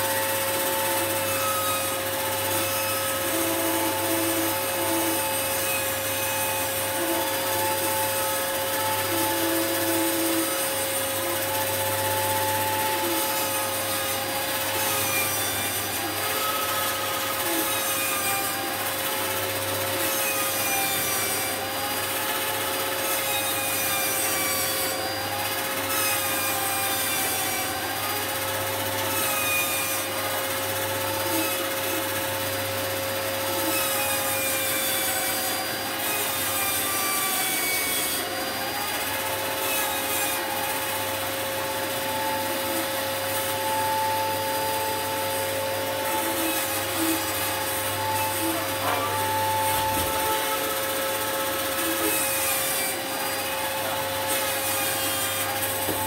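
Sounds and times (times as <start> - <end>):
bandsaw cutting log: 0.0 - 56.0.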